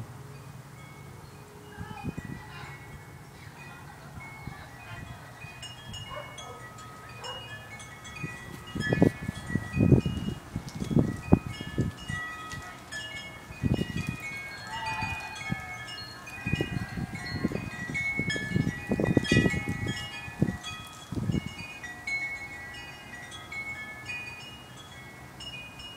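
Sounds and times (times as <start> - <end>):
wind chimes ringing: 0.2 - 25.9.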